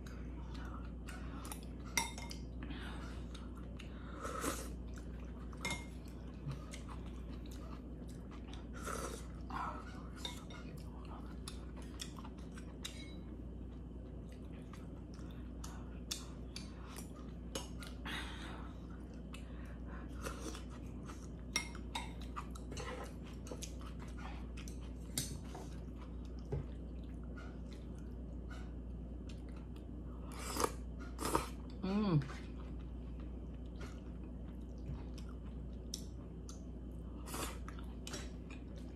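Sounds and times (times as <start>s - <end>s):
person chewing food: 0.0s - 38.9s
steady low hum: 0.0s - 38.9s.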